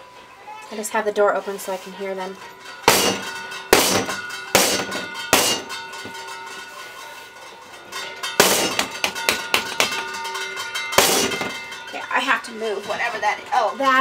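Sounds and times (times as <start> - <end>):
bowls clanging and ringing: 1.4 - 14.0.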